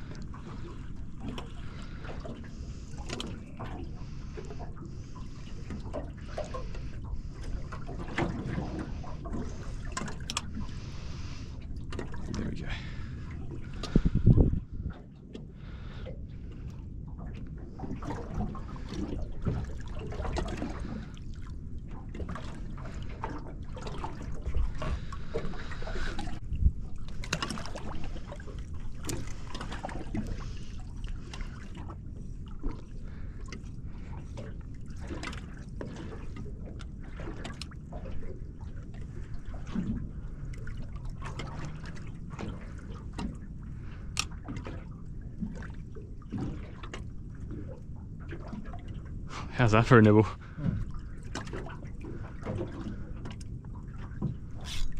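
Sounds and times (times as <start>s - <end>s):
water lapping against boat hull: 0.0s - 54.9s.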